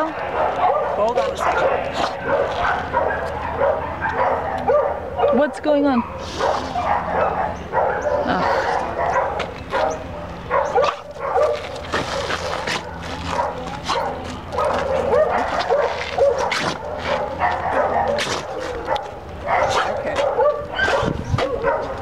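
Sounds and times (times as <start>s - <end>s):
dog barking and yipping: 0.0s - 22.0s.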